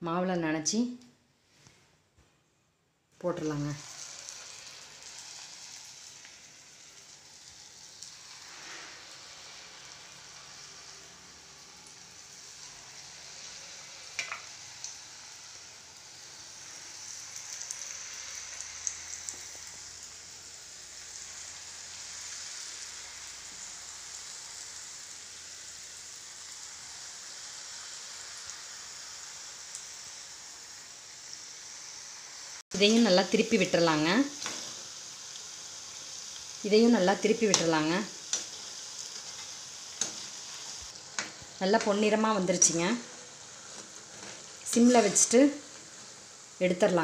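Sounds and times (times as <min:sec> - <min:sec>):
deep-frying sizzle in oil: 0:03.2 - 0:47.0.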